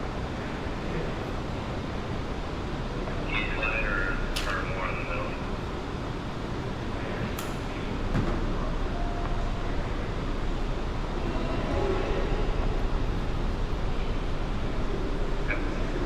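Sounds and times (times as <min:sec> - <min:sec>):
low rumbling vehicle noise: 0:00.0 - 0:16.0.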